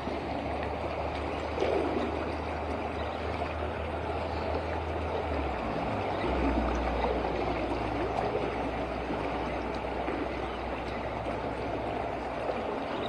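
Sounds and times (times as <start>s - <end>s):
rushing stream water: 0.0s - 13.0s.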